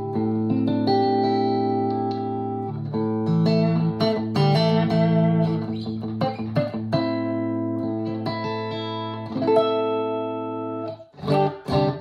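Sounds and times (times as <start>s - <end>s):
electric guitar chords and notes: 0.0s - 12.0s.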